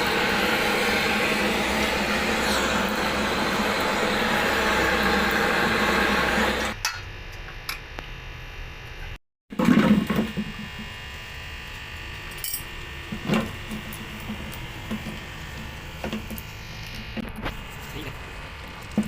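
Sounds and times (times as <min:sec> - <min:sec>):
machine humming: 0:00.0 - 0:06.8, 0:09.6 - 0:19.0.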